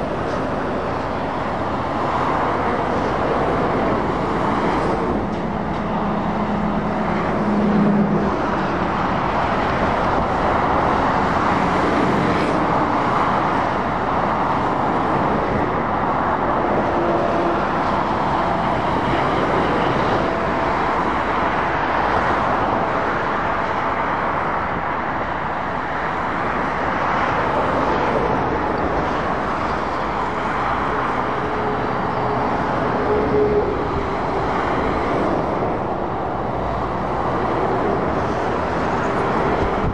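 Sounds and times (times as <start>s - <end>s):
motorway traffic passing: 0.0s - 39.9s
tyre noise on road: 0.0s - 39.9s.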